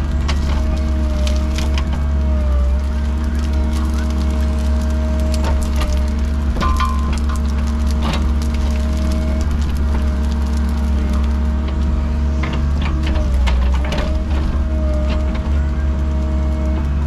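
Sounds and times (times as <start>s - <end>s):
diesel engine running: 0.0s - 17.0s
wood cracking and snapping: 0.2s - 16.6s.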